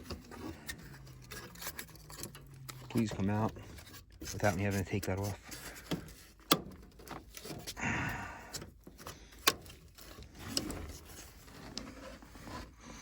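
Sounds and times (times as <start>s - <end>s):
scraping rustle: 0.0s - 7.8s, 8.5s - 13.0s.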